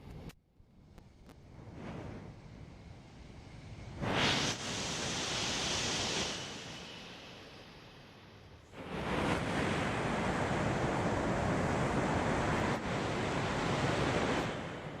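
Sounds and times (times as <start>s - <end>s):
train passing at speed: 2.3s - 15.0s.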